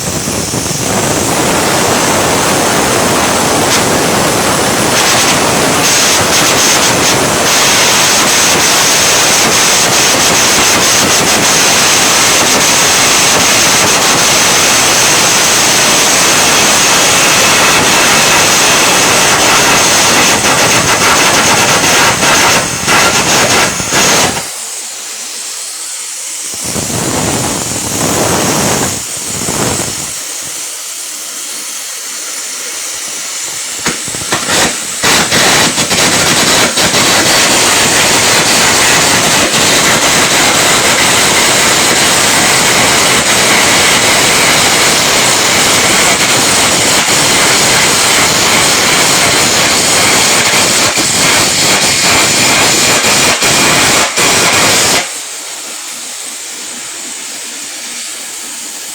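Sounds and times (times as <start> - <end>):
welding arc crackling: 0.0 - 55.4.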